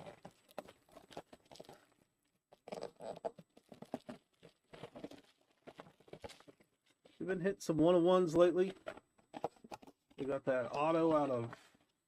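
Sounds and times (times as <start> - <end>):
cardboard and wrapper rustling: 0.0 - 7.2, 8.2 - 12.0.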